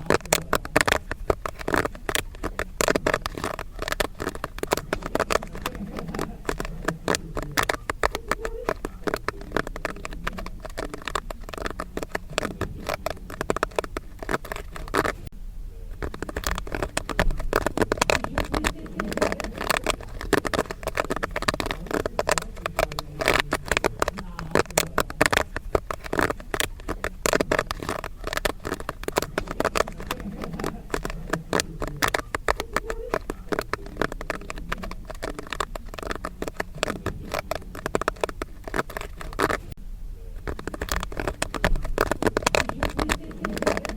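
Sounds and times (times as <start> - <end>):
popcorn popping: 0.0 - 43.9.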